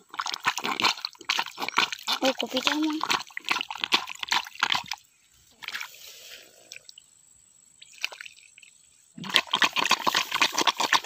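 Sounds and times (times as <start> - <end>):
water sloshing by hand: 0.0 - 6.9, 7.8 - 11.0.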